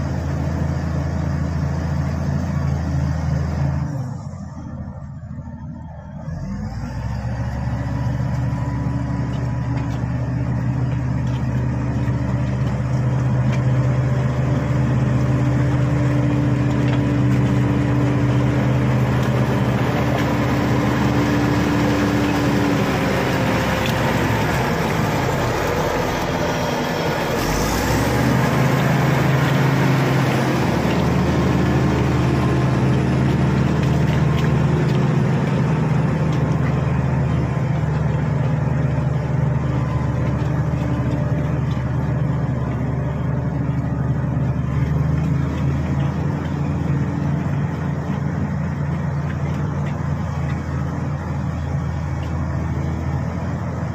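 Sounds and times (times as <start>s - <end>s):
bulldozer diesel engine: 0.0s - 53.9s.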